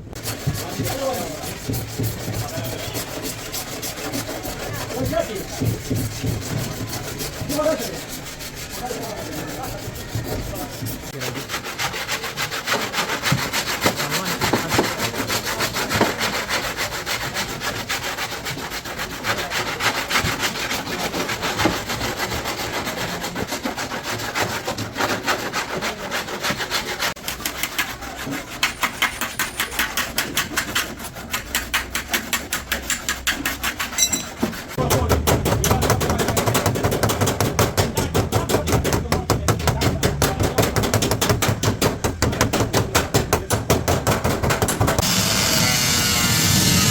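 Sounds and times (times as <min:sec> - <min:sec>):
rasping scrape on rusted sheet steel: 0:00.0 - 0:34.9, 0:40.4 - 0:46.9.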